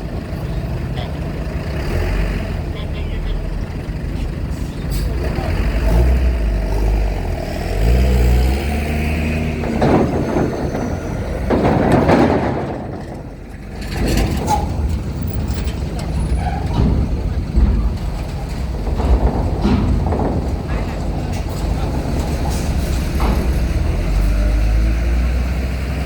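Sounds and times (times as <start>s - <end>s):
truck engine revving: 0.0s - 26.0s
truck engines rumbling: 0.0s - 26.0s.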